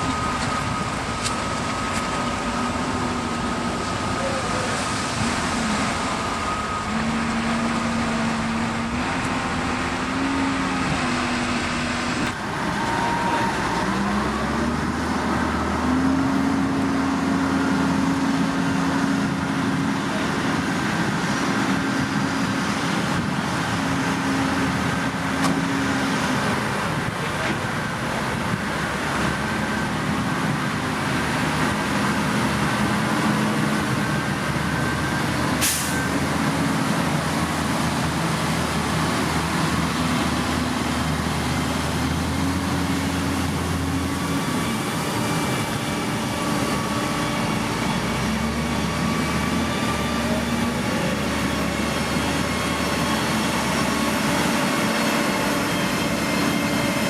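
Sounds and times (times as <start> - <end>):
diesel engines of heavy machinery: 0.0 - 57.0.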